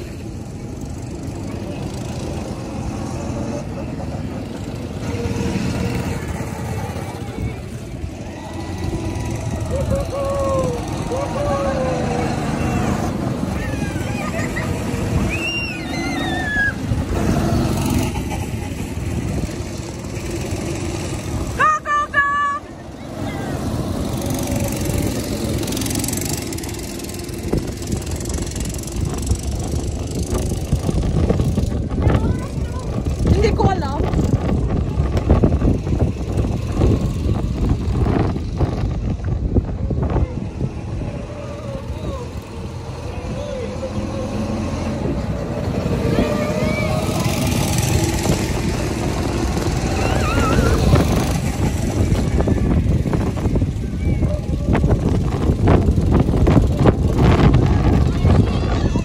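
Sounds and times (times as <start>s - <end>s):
go-kart engines droning: 0.0s - 59.0s
wind buffeting microphone: 4.4s - 21.6s, 22.8s - 59.0s.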